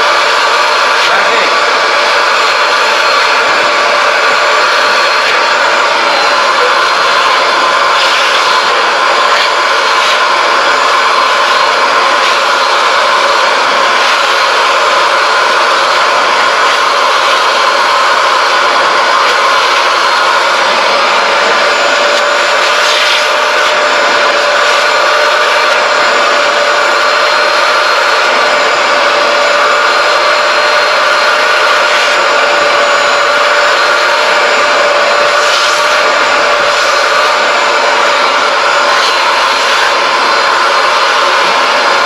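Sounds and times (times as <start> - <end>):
vacuum motor whining: 0.0 - 42.0.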